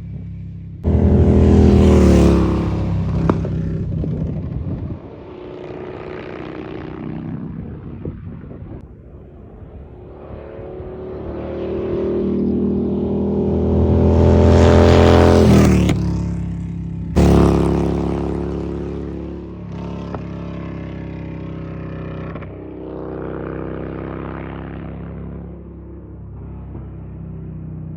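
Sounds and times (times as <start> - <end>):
motorcycle engine revving: 0.0 - 8.8, 9.8 - 27.9.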